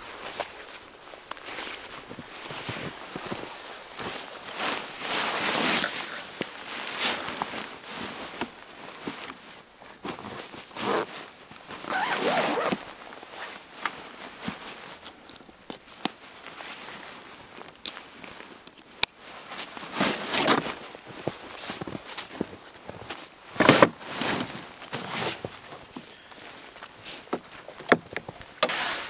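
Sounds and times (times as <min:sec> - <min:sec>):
rustling and crunching in snow: 0:00.0 - 0:15.2, 0:19.2 - 0:27.8, 0:28.6 - 0:29.0.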